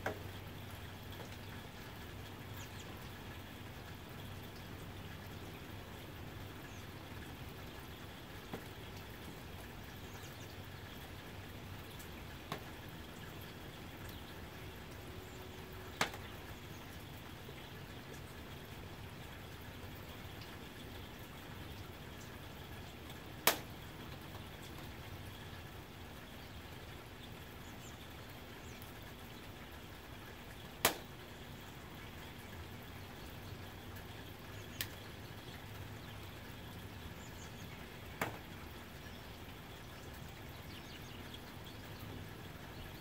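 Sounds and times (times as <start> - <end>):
soft steady rain: 0.0 - 43.0.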